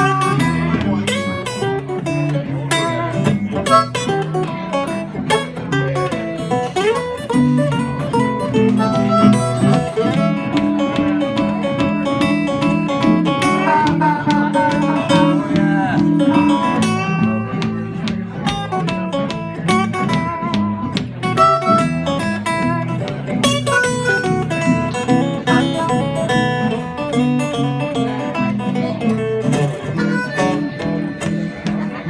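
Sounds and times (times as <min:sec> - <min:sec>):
harmonica bending notes: 0:00.0 - 0:05.8, 0:06.6 - 0:32.0
acoustic guitars picking: 0:00.0 - 0:32.0.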